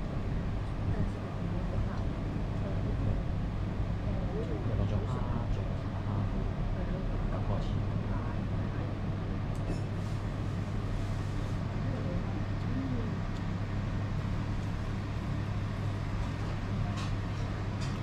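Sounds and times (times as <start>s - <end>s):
restaurant room hum: 0.0s - 18.0s.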